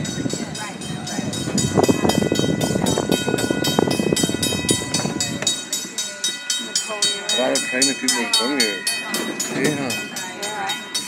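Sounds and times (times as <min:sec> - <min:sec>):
railroad crossing bell ringing: 0:00.0 - 0:11.0
train rumbling on rails: 0:00.0 - 0:11.0.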